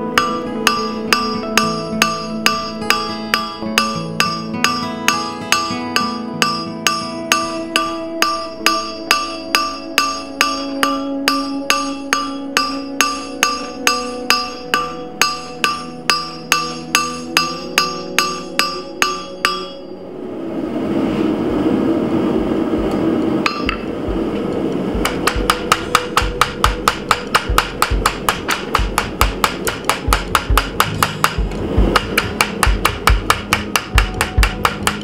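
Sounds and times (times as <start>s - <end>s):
hammer striking steel on anvil: 0.0s - 19.9s, 23.4s - 23.9s, 25.0s - 35.0s
steady rushing noise: 0.0s - 35.0s.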